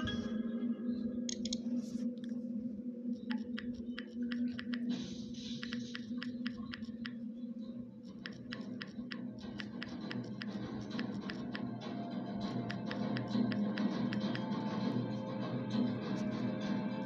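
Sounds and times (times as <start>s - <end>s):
steady low drone: 0.0s - 17.0s.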